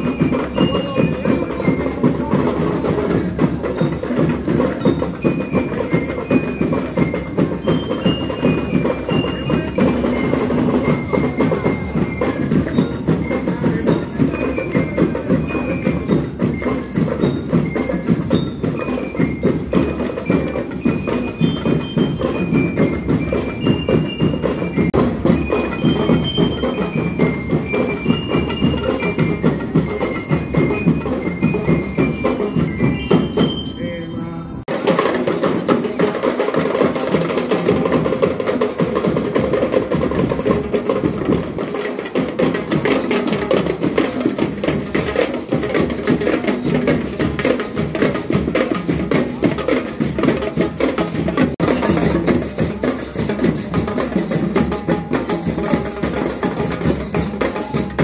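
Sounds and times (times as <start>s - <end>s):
bell lyres ringing: 0.0s - 58.0s
marching band playing: 0.0s - 58.0s.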